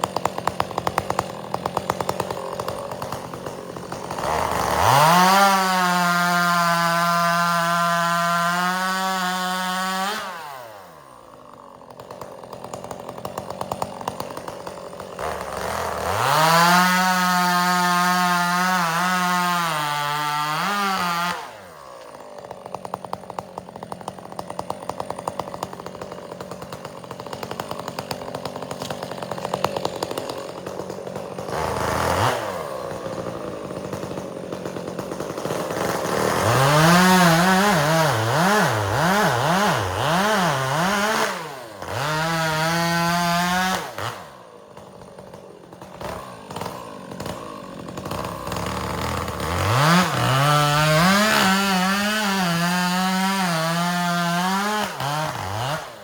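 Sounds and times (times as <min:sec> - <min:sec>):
chainsaw cutting firewood: 0:00.0 - 0:56.0
chainsaw idling and revving: 0:00.0 - 0:56.0.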